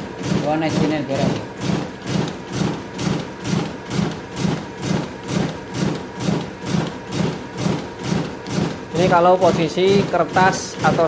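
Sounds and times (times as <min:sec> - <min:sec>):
duplicator printing: 0:00.0 - 0:11.0.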